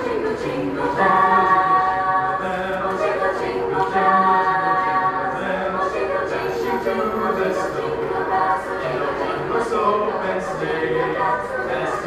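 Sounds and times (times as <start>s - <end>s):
mixed choir singing a cappella: 0.0s - 12.0s.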